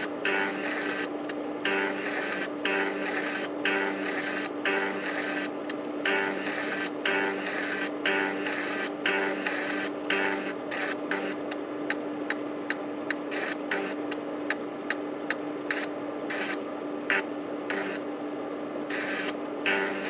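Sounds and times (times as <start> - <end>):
disk motor humming: 0.0 - 18.1, 18.8 - 20.0.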